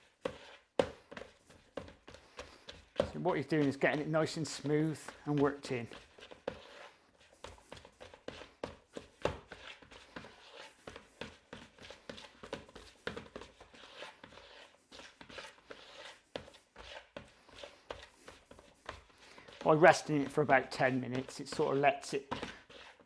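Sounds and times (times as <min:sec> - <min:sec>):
hands kneading dough: 0:00.0 - 0:23.0.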